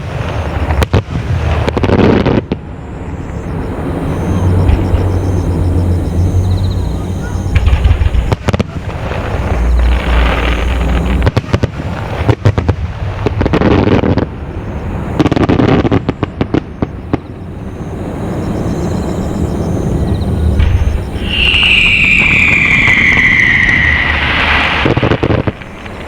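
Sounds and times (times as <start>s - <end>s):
fireworks booming: 0.0s - 26.0s
fireworks cracking: 0.0s - 26.0s.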